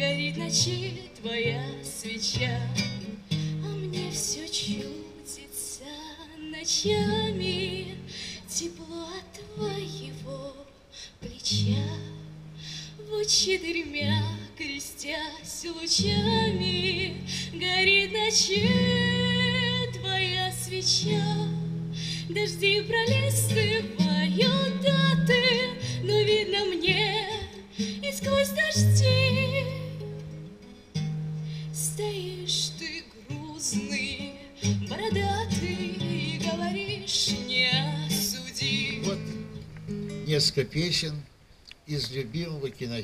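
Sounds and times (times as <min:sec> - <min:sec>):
acoustic guitar strumming: 0:00.0 - 0:05.3, 0:11.5 - 0:40.9
person singing with vibrato: 0:00.0 - 0:30.2, 0:31.6 - 0:39.5.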